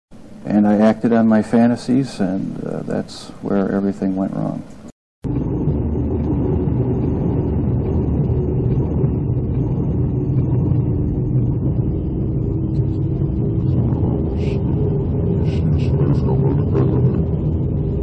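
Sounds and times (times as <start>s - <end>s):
dense low rumble: 0.2s - 18.0s.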